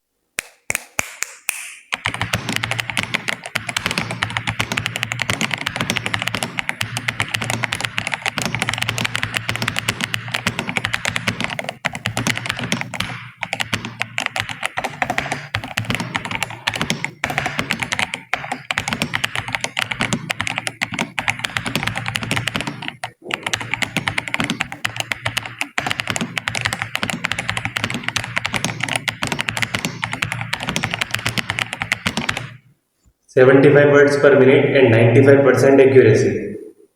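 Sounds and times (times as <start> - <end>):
typing on computer keyboard: 1.9 - 32.6.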